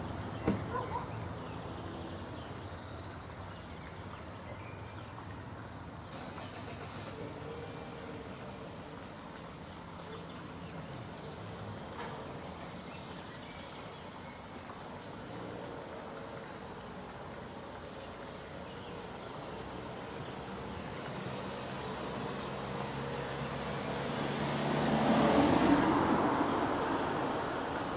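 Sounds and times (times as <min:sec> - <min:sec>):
songbird chirping: 0:00.0 - 0:27.8.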